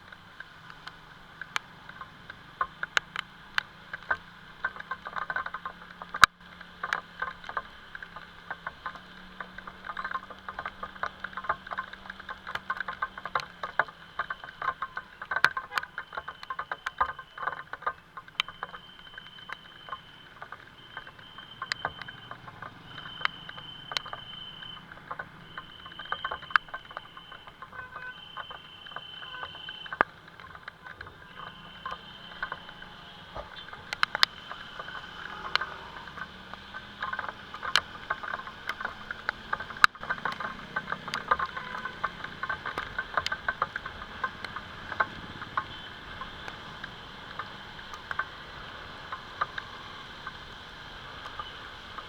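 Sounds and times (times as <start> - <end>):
rain pattering: 0.0 - 52.0
water drops dripping: 0.0 - 52.0.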